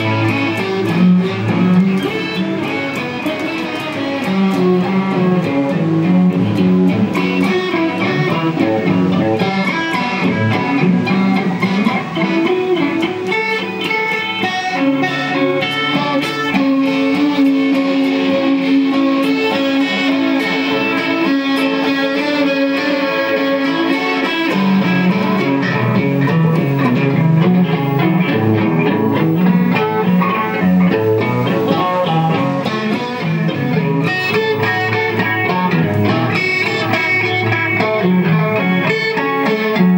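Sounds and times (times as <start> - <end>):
plucked-string instrumental music: 0.0 - 39.9.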